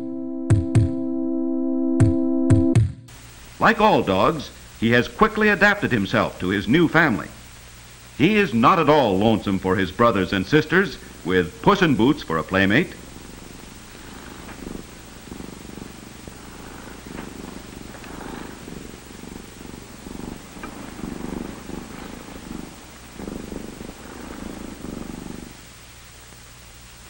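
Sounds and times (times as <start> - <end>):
film soundtrack hiss and hum: 3.1 - 27.0
cat purring: 3.2 - 26.8.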